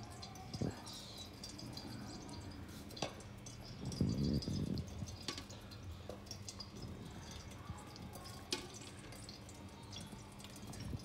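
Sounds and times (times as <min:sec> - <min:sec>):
thick liquid pouring and dripping: 0:00.0 - 0:11.0.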